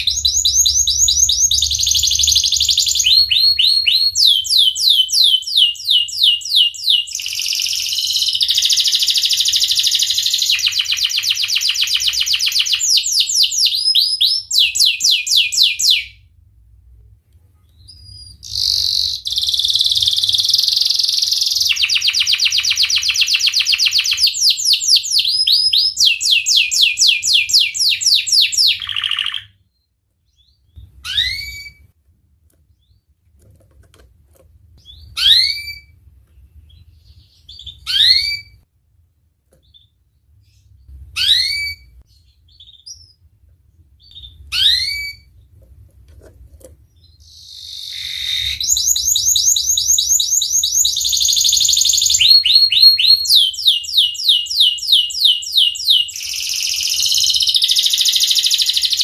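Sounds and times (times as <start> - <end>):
canary singing trills: 0.0 - 16.2, 17.6 - 31.9, 34.8 - 38.6, 39.6 - 43.2, 44.0 - 45.5, 46.9 - 59.0.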